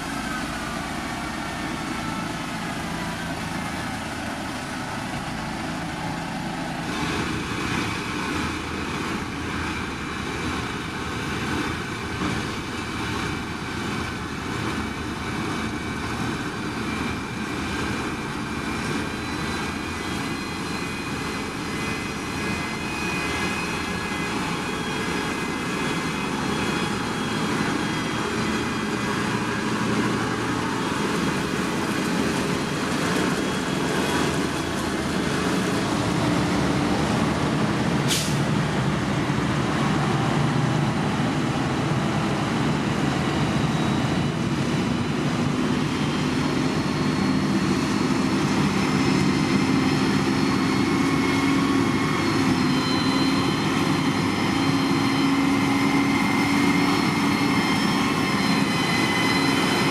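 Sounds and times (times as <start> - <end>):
diesel machinery running: 0.0 - 59.9
high machine whine: 0.0 - 59.9.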